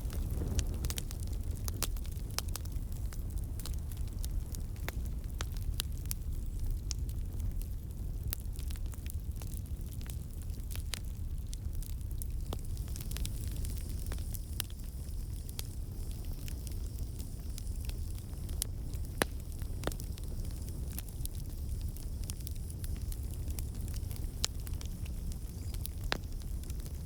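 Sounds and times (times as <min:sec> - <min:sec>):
burning wood crackling and popping: 0:00.0 - 0:27.0
campfire flames rumbling: 0:00.0 - 0:27.0.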